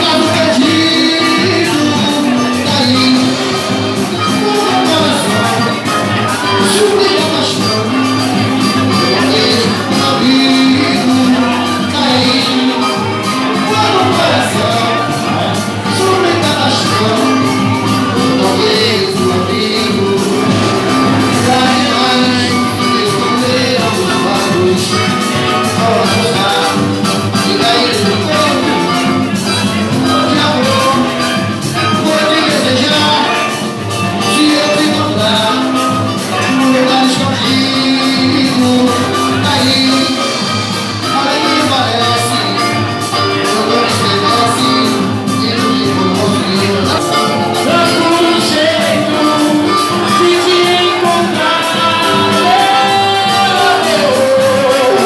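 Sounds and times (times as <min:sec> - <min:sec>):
driving percussion beat: 0:00.0 - 0:55.0
live band playing upbeat music: 0:00.0 - 0:55.0.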